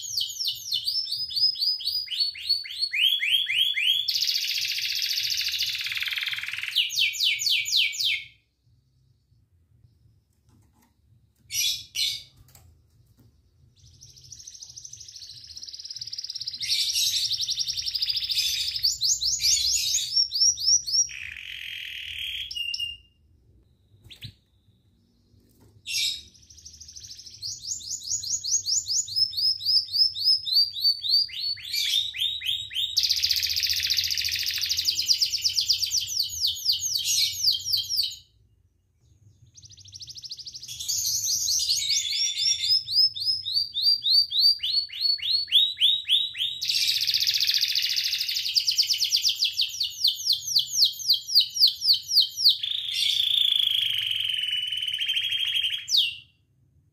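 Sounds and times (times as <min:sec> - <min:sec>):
canary singing trills: 0:00.0 - 0:08.4, 0:11.4 - 0:38.3, 0:39.0 - 0:56.3.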